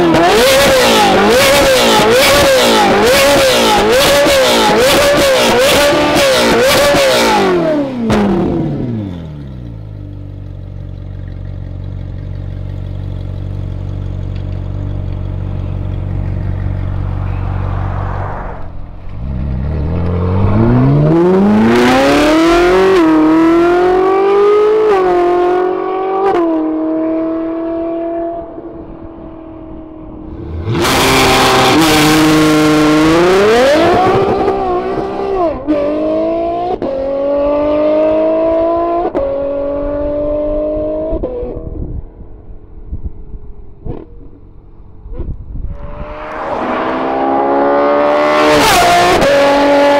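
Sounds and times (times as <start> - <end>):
sports car engine revving: 0.0 - 41.8, 43.8 - 49.9.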